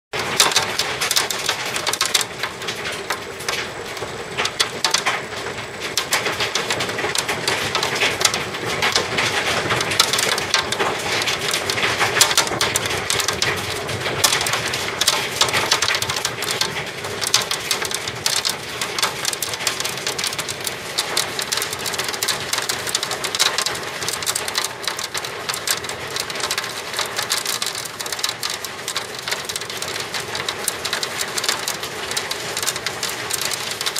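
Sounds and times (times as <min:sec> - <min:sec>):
hail and heavy rain clattering: 0:00.1 - 0:33.9.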